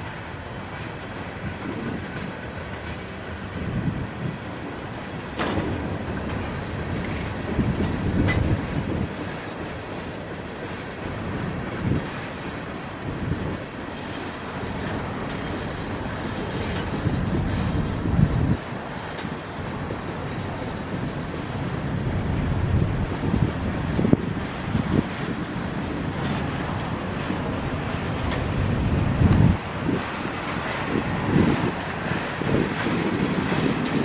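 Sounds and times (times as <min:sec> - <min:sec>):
train wheels clacking over rail joints: 0:00.0 - 0:34.0.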